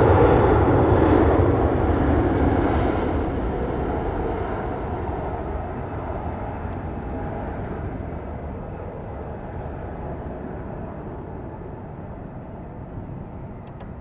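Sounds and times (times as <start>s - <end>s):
jet airliner engines rumbling: 0.0s - 14.0s.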